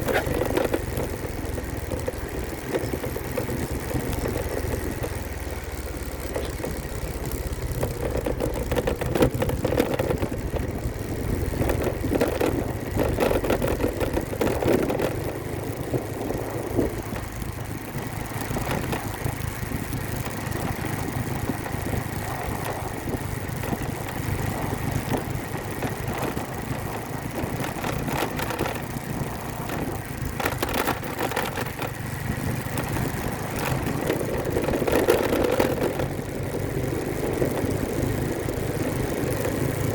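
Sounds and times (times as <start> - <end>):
vehicle engines idling in traffic: 0.0 - 39.9.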